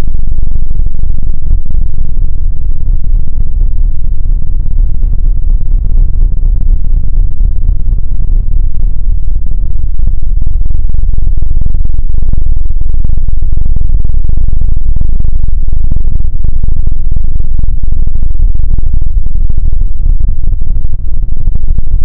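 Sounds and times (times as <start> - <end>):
distorted low rumble: 0.0 - 22.0.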